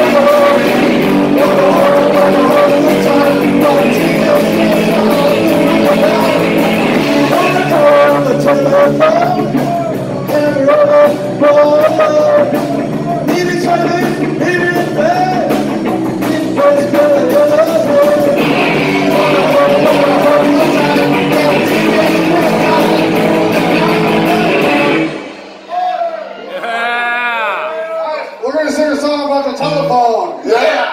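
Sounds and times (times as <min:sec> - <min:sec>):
man singing: 0:00.0 - 0:25.1
bass guitar: 0:00.0 - 0:25.4
electric guitars: 0:00.0 - 0:25.7
drums: 0:00.0 - 0:26.2.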